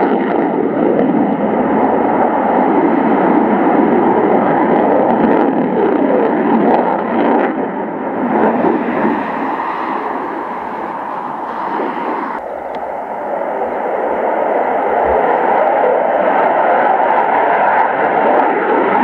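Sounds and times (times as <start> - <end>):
jet engine rushing overhead: 0.0 - 19.0.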